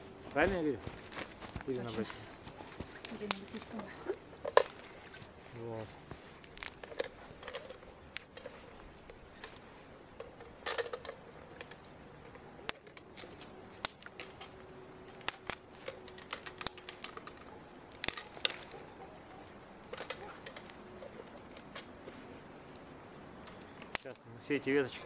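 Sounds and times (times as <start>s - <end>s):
twigs snapping: 0.2s - 5.3s, 6.0s - 24.3s.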